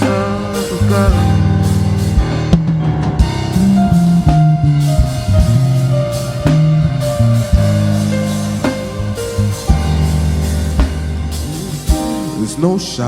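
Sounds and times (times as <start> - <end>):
band playing instrumental: 0.0 - 13.0.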